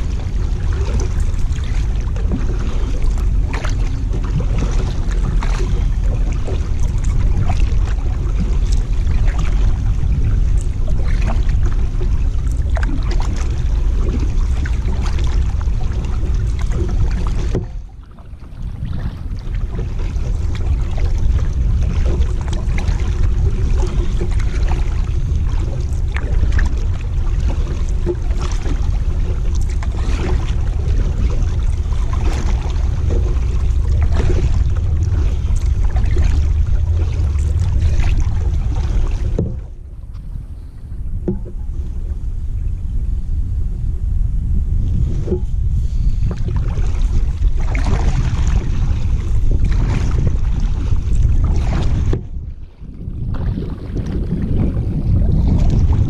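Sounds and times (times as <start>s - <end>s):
paddle splashing in water: 0.0s - 42.2s, 44.8s - 56.0s
steady low rumble: 0.0s - 56.0s.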